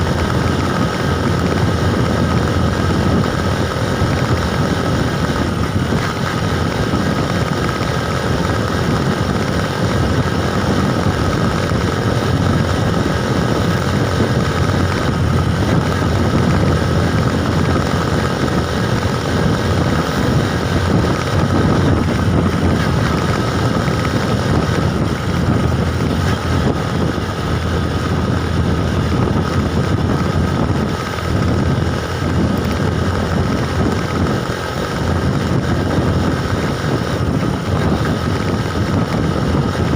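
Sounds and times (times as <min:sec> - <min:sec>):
bike travel noise: 0:00.0 - 0:39.9
wind buffeting microphone: 0:00.0 - 0:39.9.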